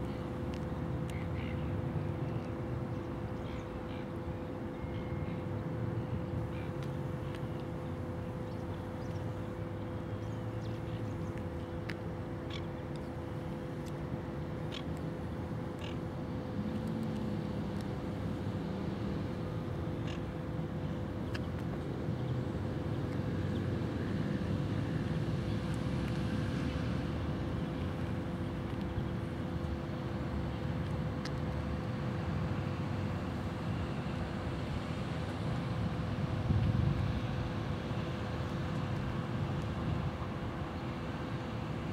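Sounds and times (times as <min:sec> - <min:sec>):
constant hum: 0:00.0 - 0:41.9
low outdoor rumble: 0:00.0 - 0:41.9.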